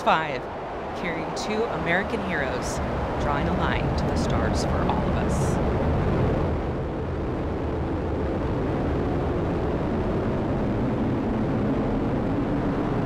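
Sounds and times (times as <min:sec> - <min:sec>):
rocket engines deep rumble: 0:00.0 - 0:13.0.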